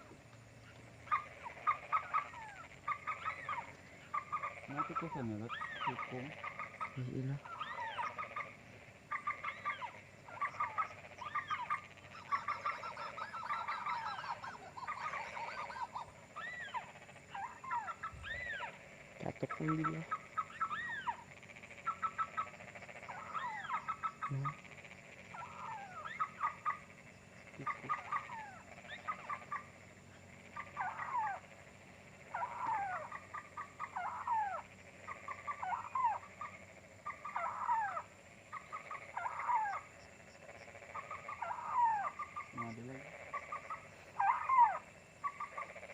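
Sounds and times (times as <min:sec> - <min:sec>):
birds chirping and trilling: 0:00.0 - 0:45.9.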